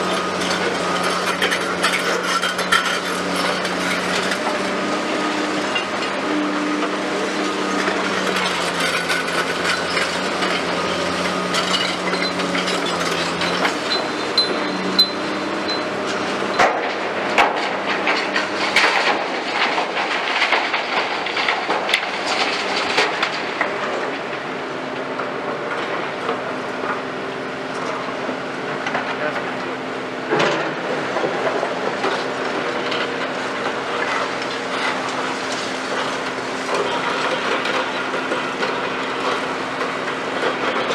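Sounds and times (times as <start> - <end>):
excavator engine humming: 0.0 - 40.9.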